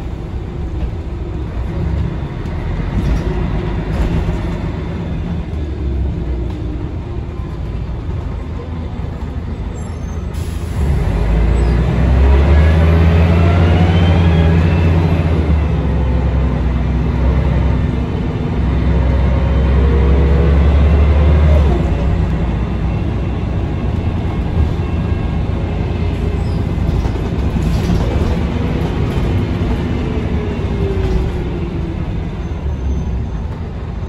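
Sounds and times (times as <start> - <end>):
bus diesel engine drone: 0.0 - 34.0
road and rattle noise: 0.0 - 34.0.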